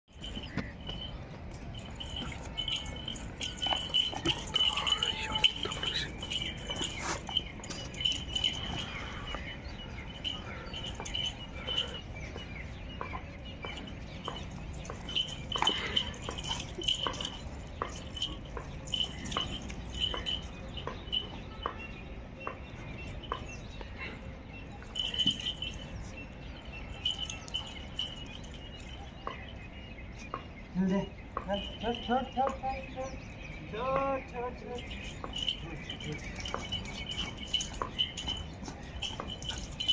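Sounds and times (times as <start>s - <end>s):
paws and shoes on tiled floor: 0.1s - 33.3s, 34.7s - 39.9s
birds chirping: 0.1s - 39.9s.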